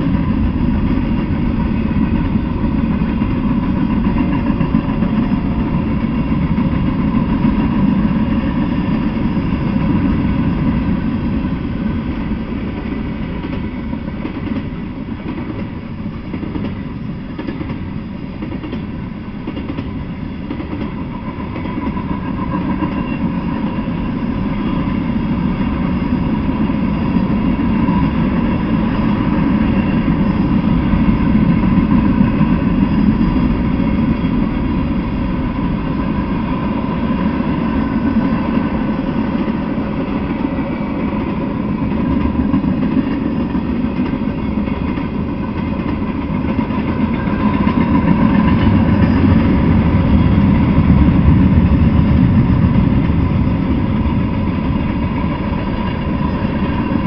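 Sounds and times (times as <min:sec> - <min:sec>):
steel wheels rumbling on rails: 0:00.0 - 0:57.0.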